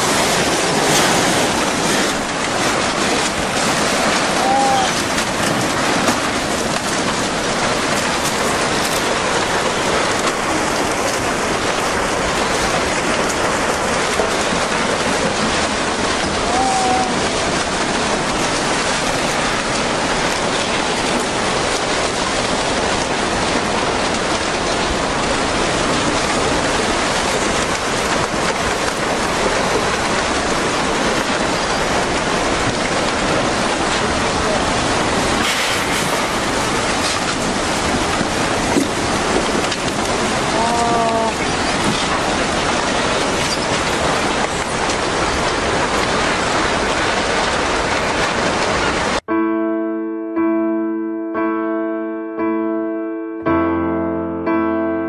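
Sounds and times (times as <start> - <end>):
floodwater rushing: 0.0 - 49.3.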